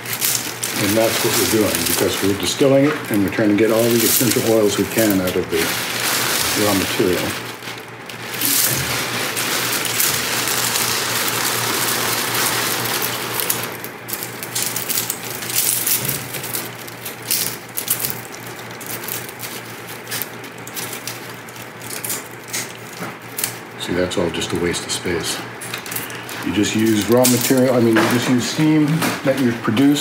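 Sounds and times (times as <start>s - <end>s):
dry leaves rustling and crackling: 0.0s - 30.0s
plastic bag rustling: 0.0s - 30.0s.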